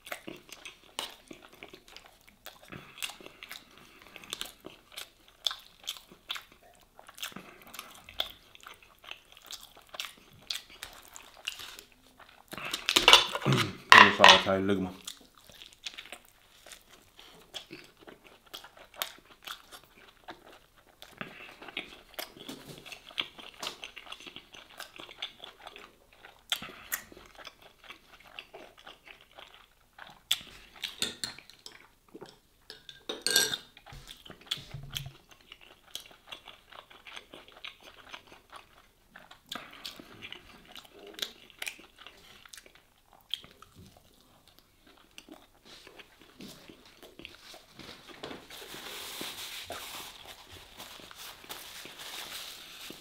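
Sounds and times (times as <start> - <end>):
chewing and crunching sandwich: 0.0 - 13.9, 14.8 - 32.8, 33.7 - 53.0.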